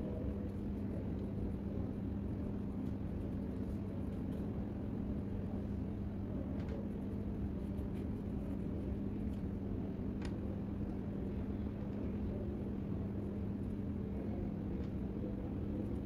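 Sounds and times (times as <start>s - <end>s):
constant low hum: 0.0s - 16.0s
low background rumble: 0.0s - 16.0s.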